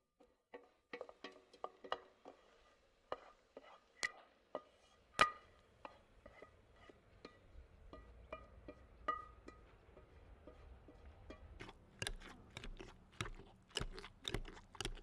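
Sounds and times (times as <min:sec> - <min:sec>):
metal utensil scraping metal pot: 0:00.6 - 0:15.0.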